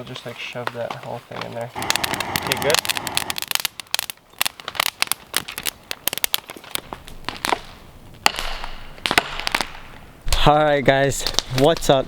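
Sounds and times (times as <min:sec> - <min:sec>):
twigs crackling and snapping: 0:00.2 - 0:12.0.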